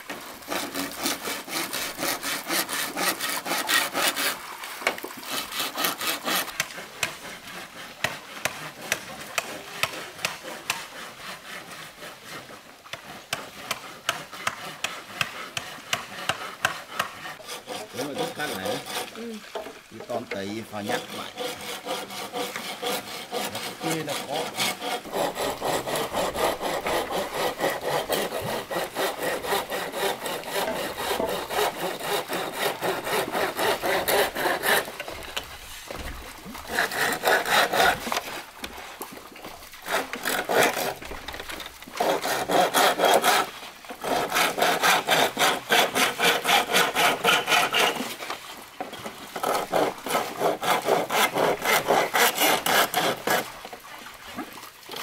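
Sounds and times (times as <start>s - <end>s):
hand saw cutting bamboo: 0.0s - 55.0s.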